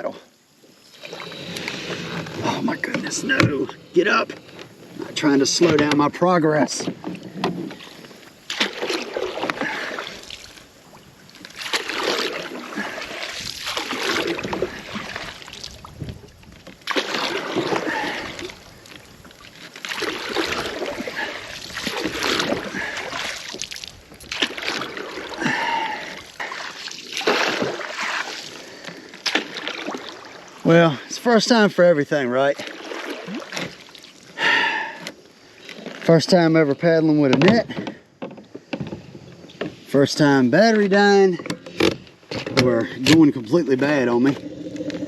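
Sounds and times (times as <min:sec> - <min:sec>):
water splashing and swishing: 0:00.0 - 0:45.0.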